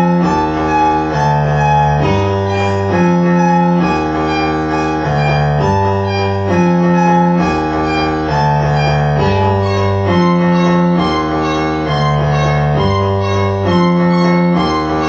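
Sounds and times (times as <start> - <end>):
synthesizer bass line: 0.0 - 15.0
synthesizer chords: 0.0 - 15.0.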